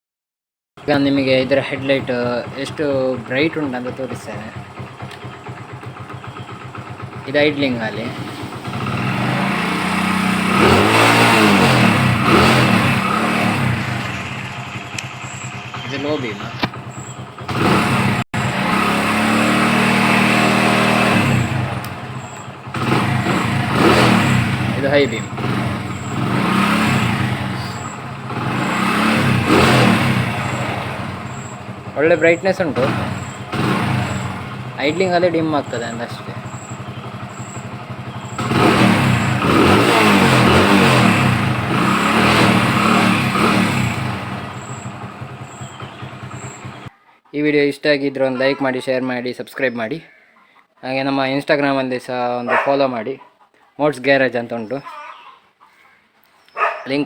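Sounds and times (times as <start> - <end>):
motorcycle engine running: 0.8 - 46.9.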